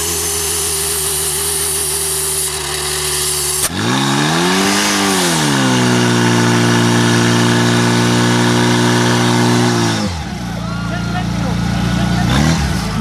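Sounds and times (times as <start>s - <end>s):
pump engine revving: 0.0s - 13.0s.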